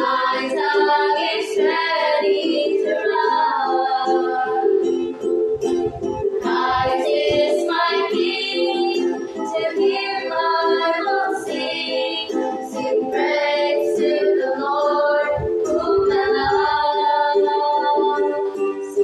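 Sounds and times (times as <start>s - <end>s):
women singing a hymn: 0.0s - 5.1s, 6.4s - 19.0s
strummed ukulele: 0.0s - 19.0s.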